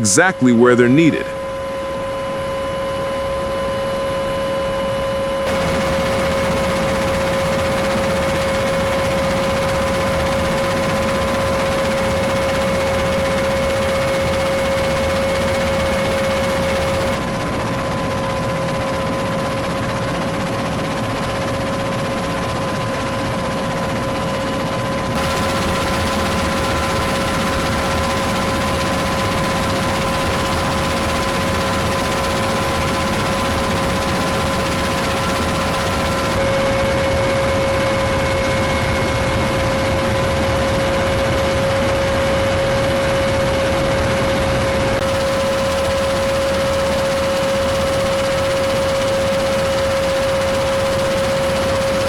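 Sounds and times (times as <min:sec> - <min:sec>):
helicopter turbine engines and rotors: 0:01.4 - 0:52.0.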